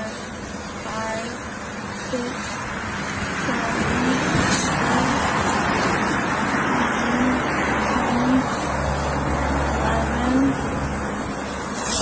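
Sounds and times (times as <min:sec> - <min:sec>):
roadside traffic noise: 0:00.0 - 0:12.0.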